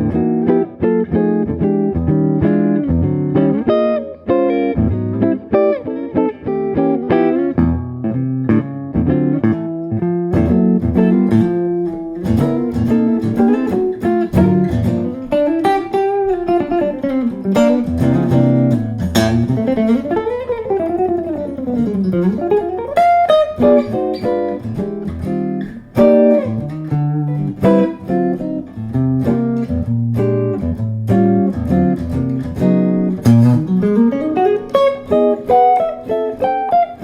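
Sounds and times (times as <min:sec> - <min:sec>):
electric guitar playing: 0:00.0 - 0:37.0.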